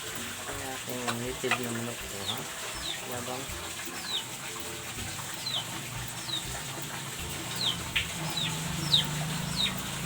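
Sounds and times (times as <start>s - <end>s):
chicks peeping: 1.1s - 4.4s, 5.2s - 10.0s.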